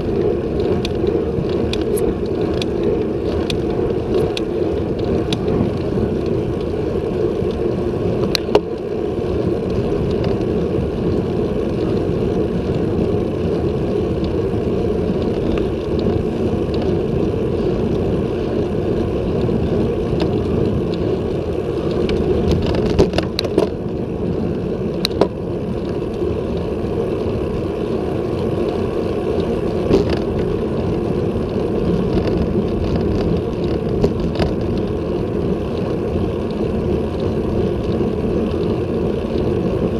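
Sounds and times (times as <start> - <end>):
road rumble: 0.0 - 39.9
wind: 0.0 - 39.9.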